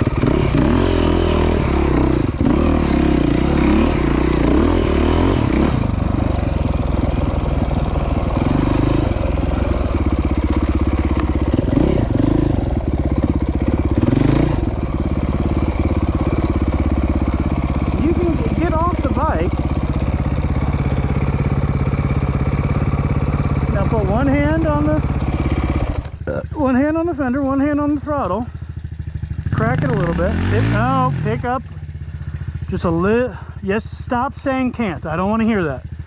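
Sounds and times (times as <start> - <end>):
dirt bike engine revving: 0.0 - 33.6.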